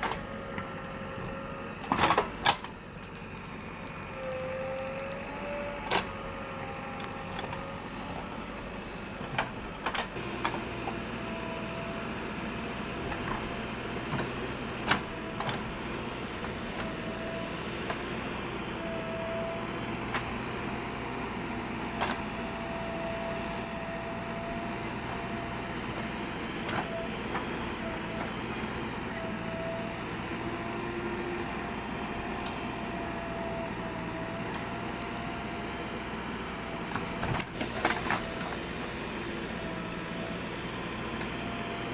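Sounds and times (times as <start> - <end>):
motor-driven machine running: 0.0 - 41.9.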